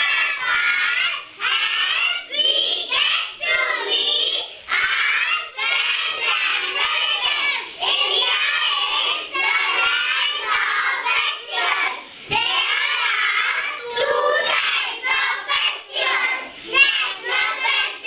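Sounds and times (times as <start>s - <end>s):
children chanting in unison: 0.0s - 18.0s.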